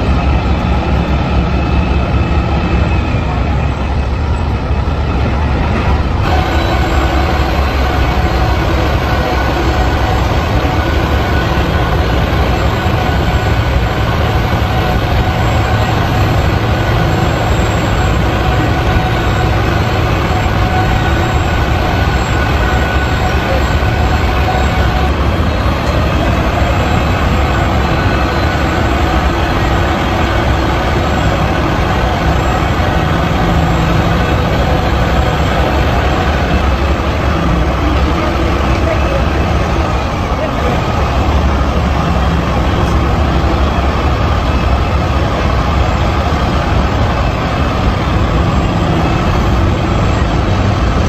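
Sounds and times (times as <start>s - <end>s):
heavy vehicle engine rumbling: 0.0s - 51.0s.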